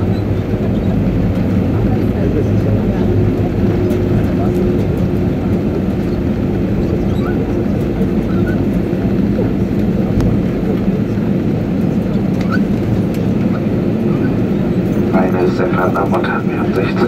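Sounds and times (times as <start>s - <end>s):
airplane cabin rumble on runway: 0.0s - 17.0s.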